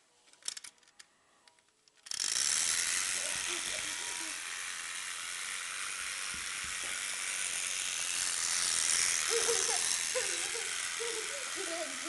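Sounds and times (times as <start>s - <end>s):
clockwork toy motor whirring: 0.4s - 12.0s.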